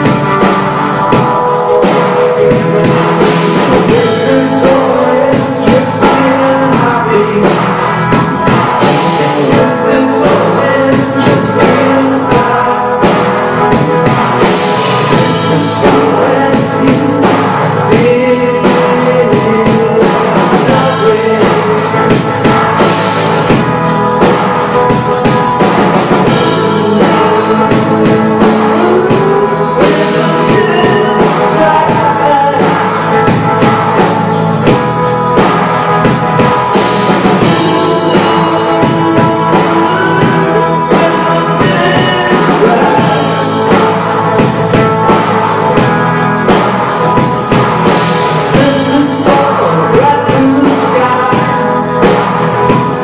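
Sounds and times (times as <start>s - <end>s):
live rock band playing: 0.0s - 53.0s
person singing: 0.0s - 53.0s.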